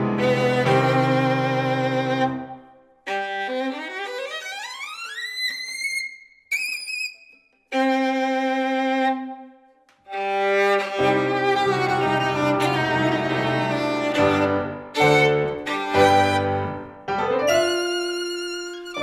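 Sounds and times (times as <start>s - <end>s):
solo violin playing: 0.0s - 19.0s.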